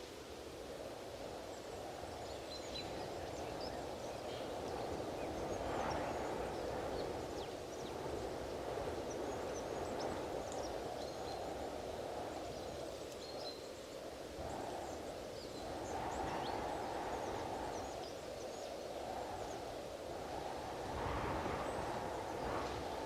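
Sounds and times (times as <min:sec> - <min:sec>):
strong gusty wind: 0:00.0 - 0:23.0.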